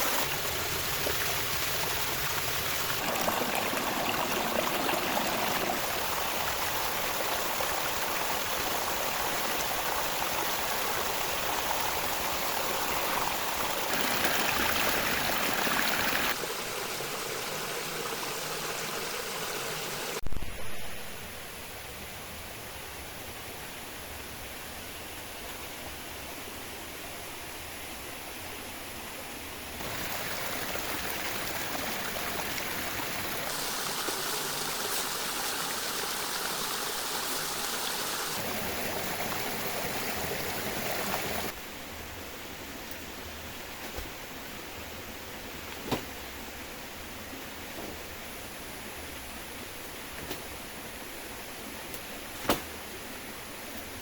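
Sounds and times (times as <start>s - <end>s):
heavy rain and running water: 0.0s - 54.0s.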